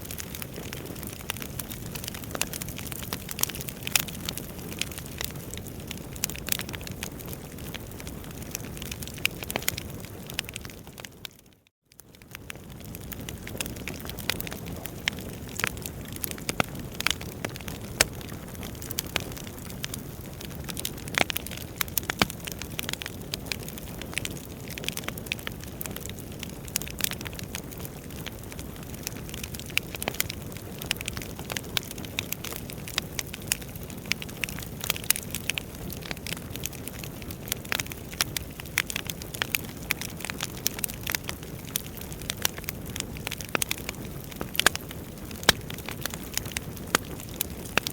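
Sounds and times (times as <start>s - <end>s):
logs crackling and popping: 0.0s - 47.9s.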